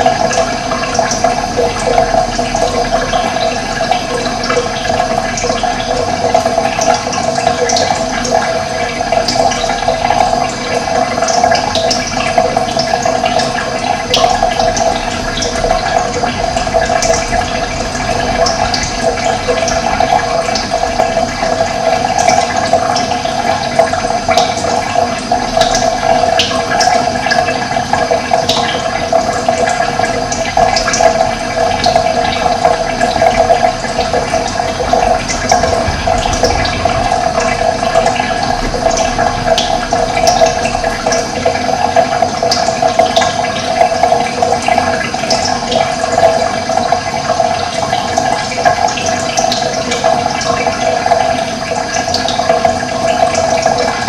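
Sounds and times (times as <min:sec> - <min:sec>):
running water splashing: 0:00.0 - 0:54.0.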